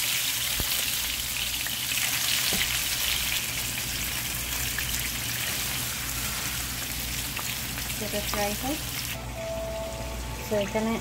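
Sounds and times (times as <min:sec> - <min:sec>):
fish frying in sizzling oil: 0:00.0 - 0:09.2.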